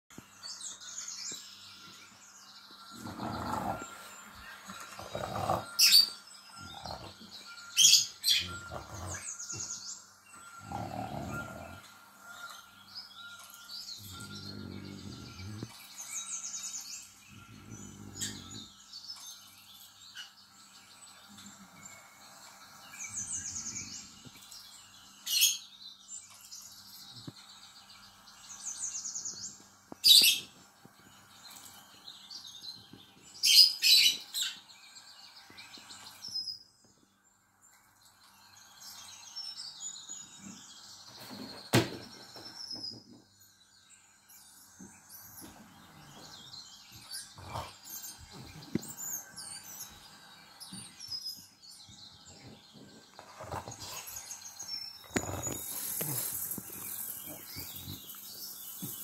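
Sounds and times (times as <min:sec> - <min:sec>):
recorded birdsong from television: 0:00.1 - 0:59.0.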